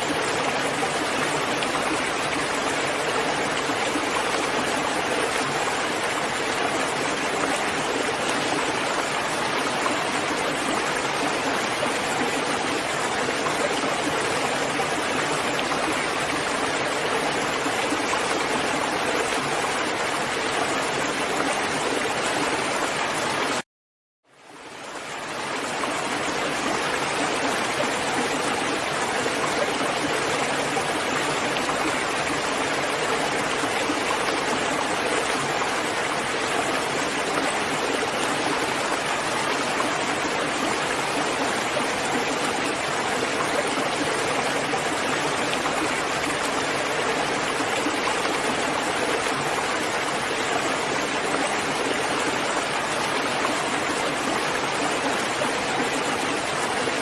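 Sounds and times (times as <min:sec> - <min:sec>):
heavy rain: 0:00.0 - 0:23.6, 0:24.6 - 0:57.0.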